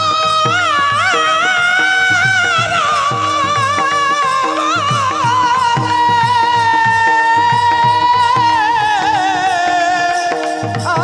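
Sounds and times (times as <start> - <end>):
man singing long high note: 0.0 - 11.0
sustained instrumental accompaniment: 0.0 - 11.0.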